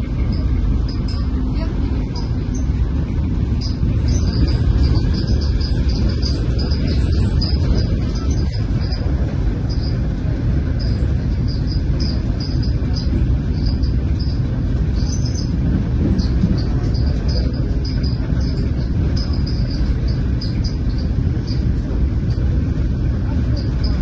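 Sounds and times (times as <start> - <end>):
train rumbling at speed: 0.0 - 24.0.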